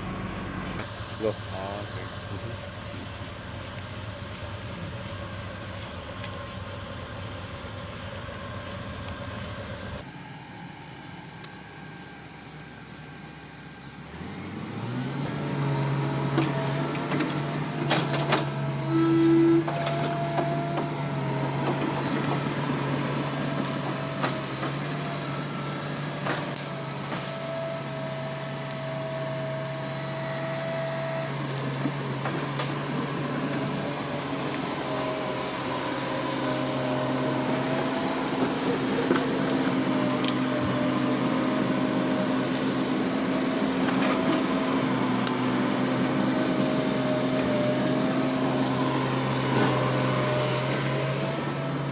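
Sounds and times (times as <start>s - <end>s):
diesel engine of earthmover: 0.0s - 51.9s.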